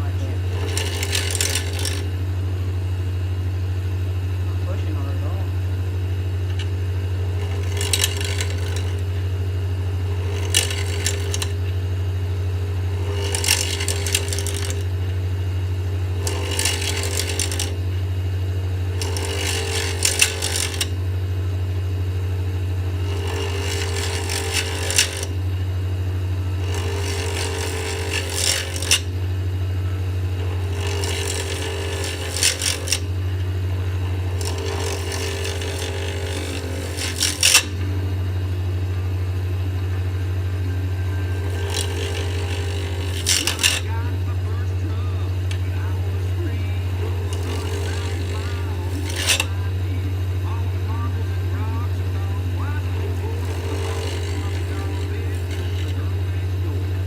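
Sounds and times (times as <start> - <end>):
tool hissing against spinning wood: 0.0 - 2.2, 6.9 - 21.1, 22.8 - 25.6, 26.4 - 29.3, 30.2 - 38.0, 40.8 - 57.0
wood lathe motor humming: 0.0 - 57.0.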